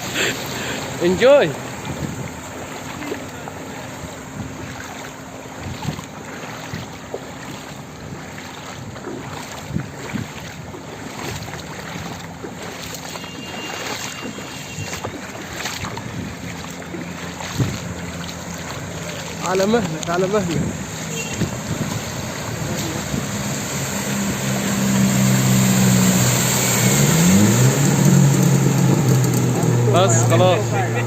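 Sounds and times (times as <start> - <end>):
low engine hum: 0.0 - 31.0
water swishing: 0.0 - 31.0.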